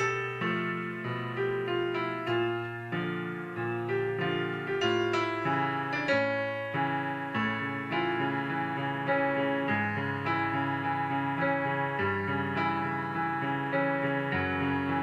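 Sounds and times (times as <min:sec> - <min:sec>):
piano notes and chords: 0:00.0 - 0:15.0.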